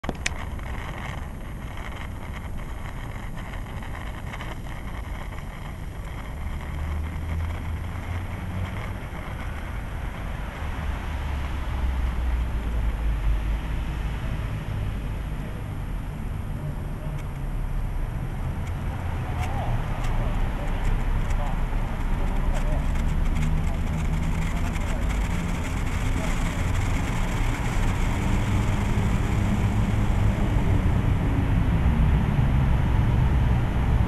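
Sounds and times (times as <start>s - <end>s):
low drone of traffic: 0.0s - 34.0s
wind noise on microphone: 0.0s - 34.0s.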